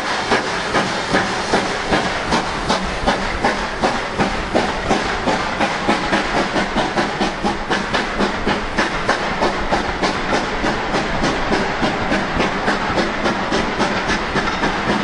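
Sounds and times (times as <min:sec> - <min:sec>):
coach wheels rumbling on rails: 0:00.0 - 0:15.0
steam locomotive exhaust beats: 0:00.0 - 0:15.0.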